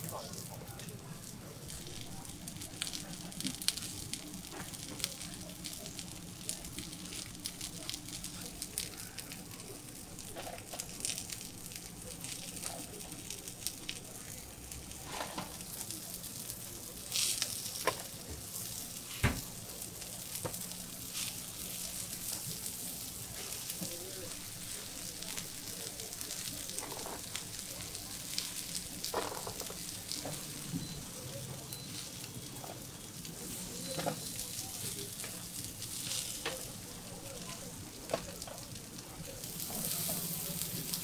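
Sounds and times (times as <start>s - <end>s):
batter sizzling on hot griddle: 0.0s - 41.0s.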